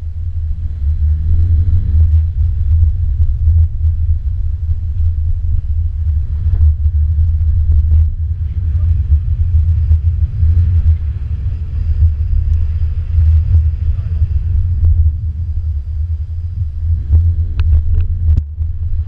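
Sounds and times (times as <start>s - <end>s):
car rumbling off-road: 0.0s - 19.0s.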